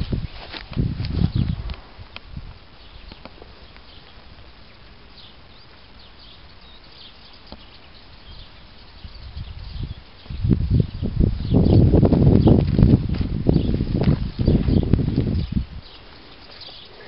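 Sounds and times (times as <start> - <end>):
birds chirping faintly: 0.0 - 17.0
low outdoor background: 0.0 - 17.0.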